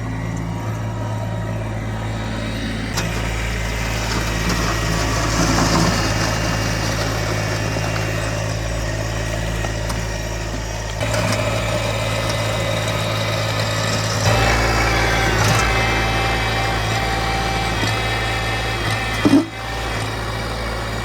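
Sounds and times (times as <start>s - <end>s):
small tractor engine running: 0.0s - 21.0s.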